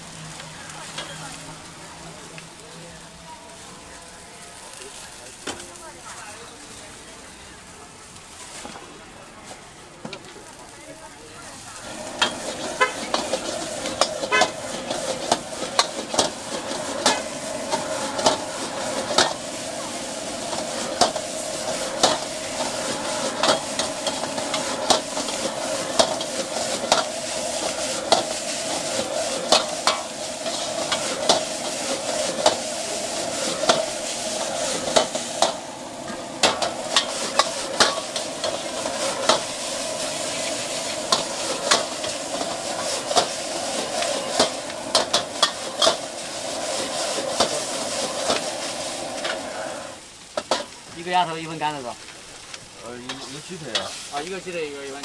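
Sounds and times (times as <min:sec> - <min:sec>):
noodles sizzling in a wok: 0:00.0 - 0:55.0.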